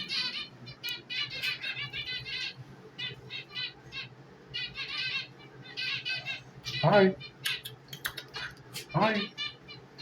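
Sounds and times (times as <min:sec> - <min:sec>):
parrots chirping: 0:00.0 - 0:10.0.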